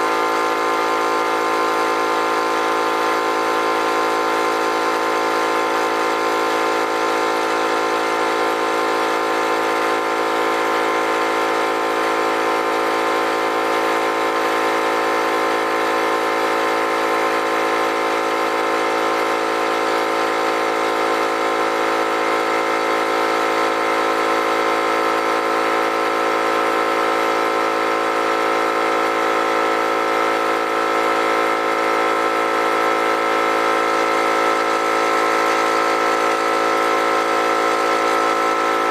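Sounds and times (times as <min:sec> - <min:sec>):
electric air compressor running: 0:00.0 - 0:38.9.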